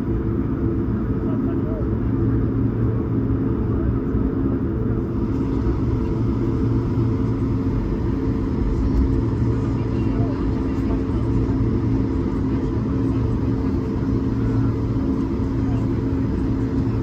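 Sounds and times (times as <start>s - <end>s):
jet engine hum: 0.0s - 17.0s.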